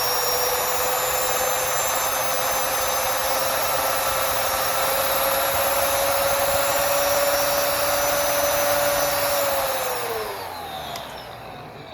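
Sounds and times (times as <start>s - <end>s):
mechanical siren winding down: 0.0s - 11.9s.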